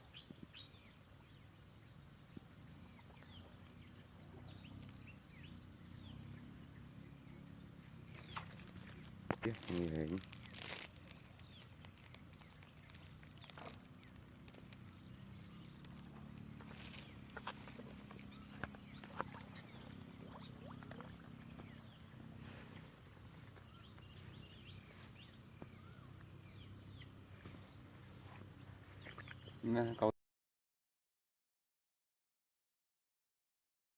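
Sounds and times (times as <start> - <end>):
faint bird chirps: 0.0 - 30.1
faint low hum: 0.0 - 30.1.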